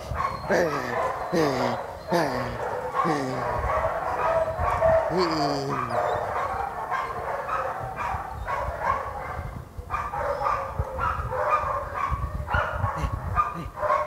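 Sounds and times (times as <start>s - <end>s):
dog barking: 0.0s - 14.0s.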